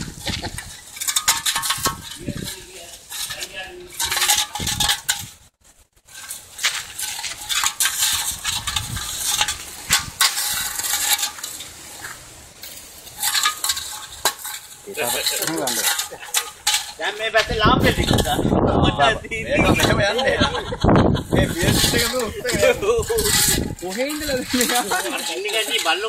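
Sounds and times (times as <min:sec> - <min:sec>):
drink can scraping over gravel: 0:00.0 - 0:20.4, 0:21.2 - 0:26.0.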